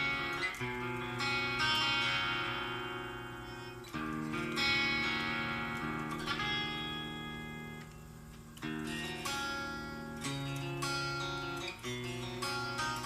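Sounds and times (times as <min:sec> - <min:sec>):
guitar chords ringing out: 0:00.0 - 0:13.0.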